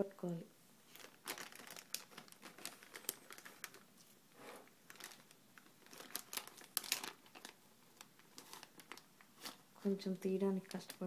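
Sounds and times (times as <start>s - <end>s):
plastic packet crinkling: 0.9s - 4.1s, 4.7s - 11.0s.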